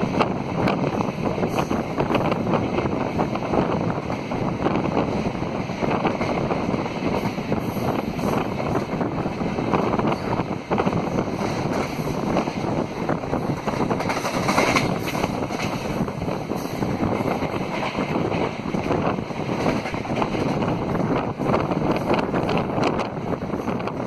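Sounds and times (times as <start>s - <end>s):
train coaches rushing at speed: 0.0s - 24.0s
wheel and rail clatter: 0.0s - 24.0s
wind buffeting microphone: 0.0s - 24.0s.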